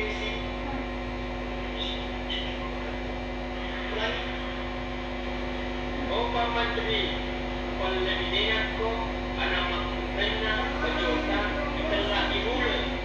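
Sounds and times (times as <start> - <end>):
electrical mains hum: 0.0 - 13.0
faint voices: 0.0 - 13.0.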